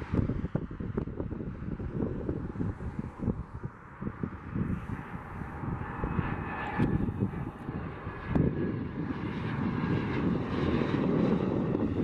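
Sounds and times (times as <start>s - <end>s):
jet engine rushing with whine: 0.0s - 12.0s.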